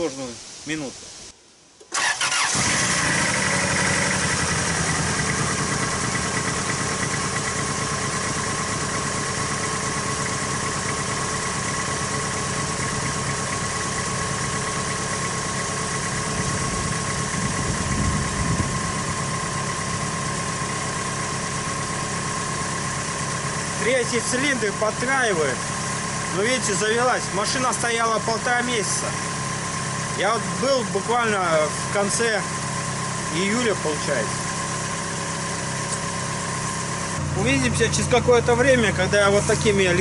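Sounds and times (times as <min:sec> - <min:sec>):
misfiring engine idling: 0:01.9 - 0:40.0.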